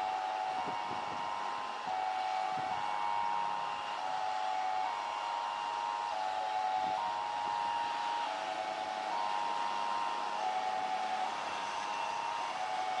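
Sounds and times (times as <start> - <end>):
two-tone warning signal: 0.0 - 13.0.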